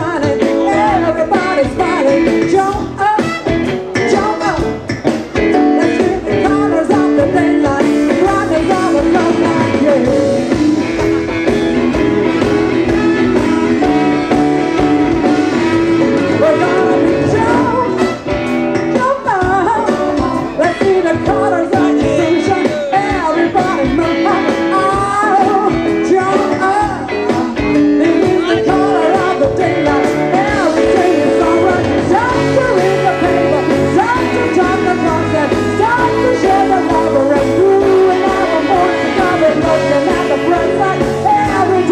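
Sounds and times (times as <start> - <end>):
live band playing soul song: 0.0 - 41.9.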